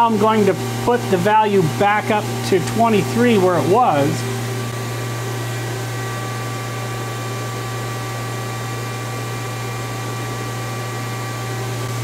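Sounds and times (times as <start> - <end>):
machine low hum: 0.0 - 12.0.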